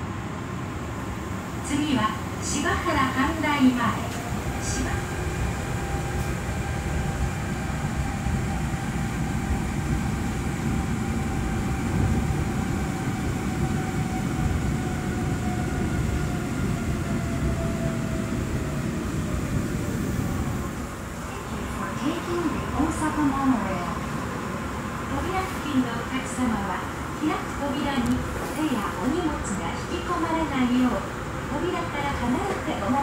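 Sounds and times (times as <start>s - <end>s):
monorail train rumble: 0.0s - 33.0s.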